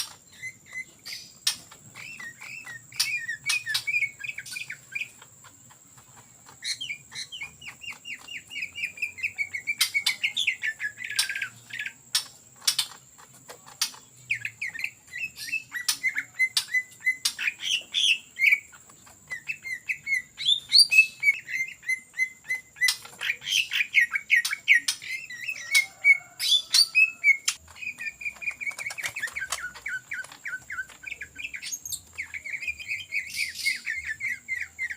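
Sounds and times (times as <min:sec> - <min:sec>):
bird singing chattering runs: 0:00.0 - 0:34.9.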